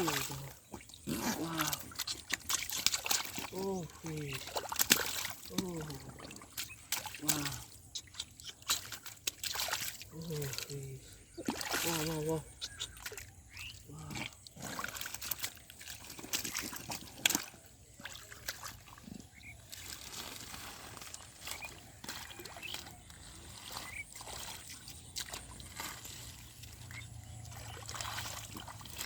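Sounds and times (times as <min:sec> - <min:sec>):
water sloshing and splashing: 0:00.0 - 0:29.0.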